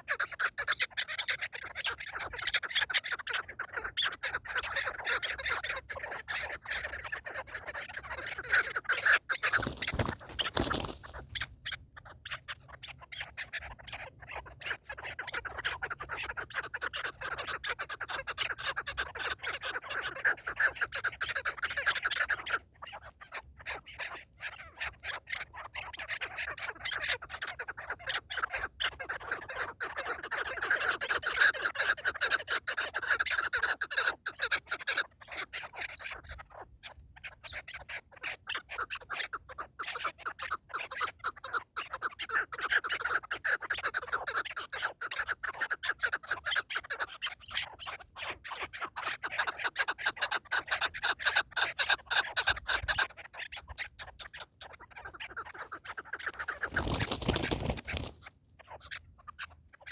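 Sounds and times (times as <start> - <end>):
partridges chattering calls: 0.0 - 59.9.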